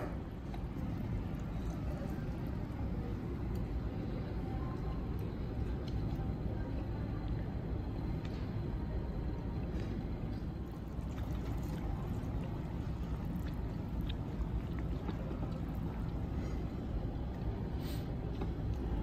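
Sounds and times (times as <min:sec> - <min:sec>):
restaurant background rumble: 0:00.0 - 0:19.0.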